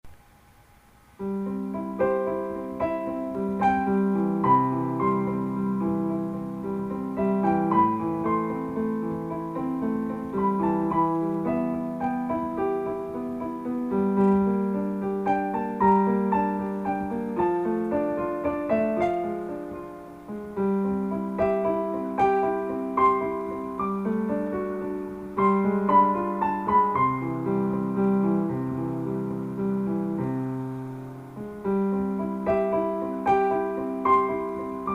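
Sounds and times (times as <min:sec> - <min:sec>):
piano music: 0:01.1 - 0:34.9.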